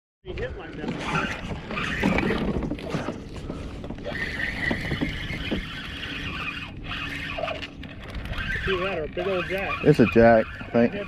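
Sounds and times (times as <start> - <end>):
fishing reel whirring and clicking: 1.0 - 3.1, 3.9 - 11.0.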